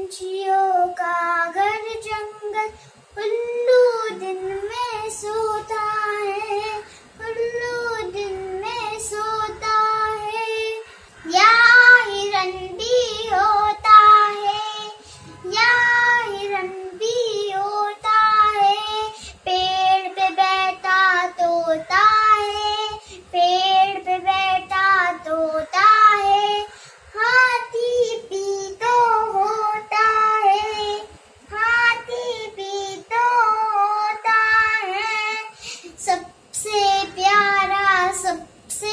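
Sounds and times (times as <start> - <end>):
girl singing: 0.0 - 38.9.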